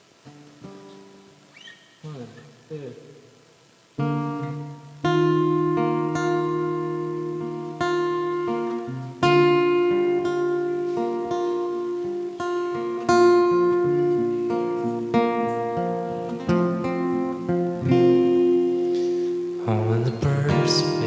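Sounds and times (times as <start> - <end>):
acoustic-electric guitar chords: 0.0 - 21.0.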